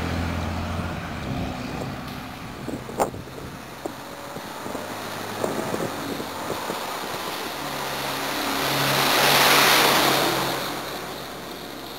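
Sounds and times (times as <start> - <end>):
vehicle driving past: 0.0 - 11.9.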